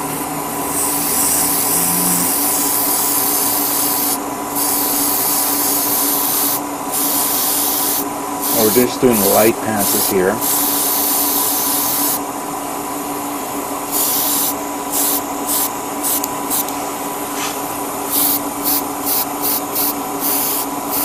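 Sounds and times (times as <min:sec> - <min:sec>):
airbrush hissing: 0:00.0 - 0:12.2, 0:13.8 - 0:21.0
extraction fan humming: 0:00.0 - 0:21.0.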